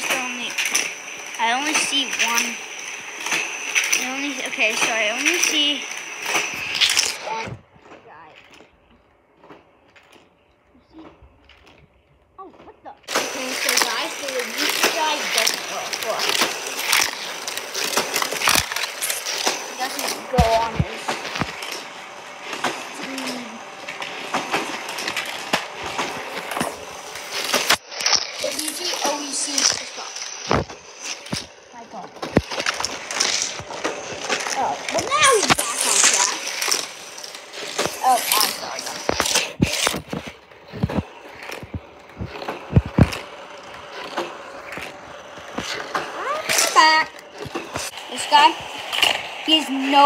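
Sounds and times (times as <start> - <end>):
toy karts whirring on track: 0.0 - 50.0.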